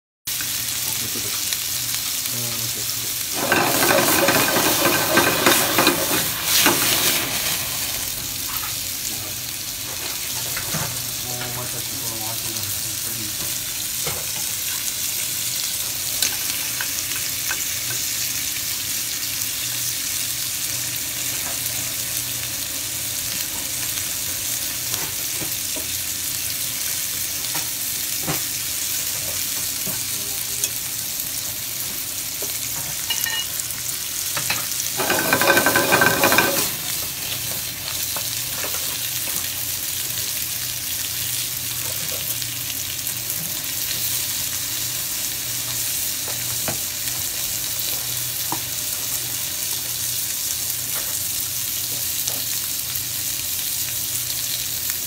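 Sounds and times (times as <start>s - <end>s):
shrimp sizzling in hot oil: 0.3s - 55.0s.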